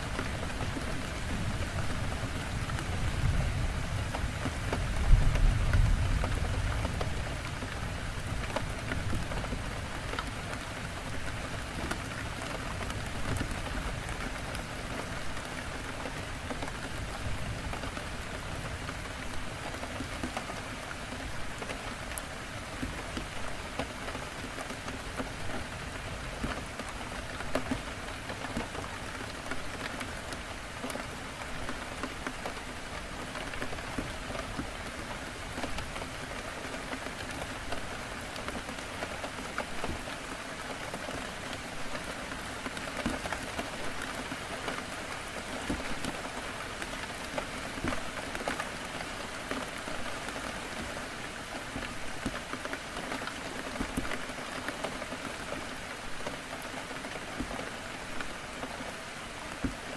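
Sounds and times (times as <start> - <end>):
heavy rain against a window: 0.0 - 59.9.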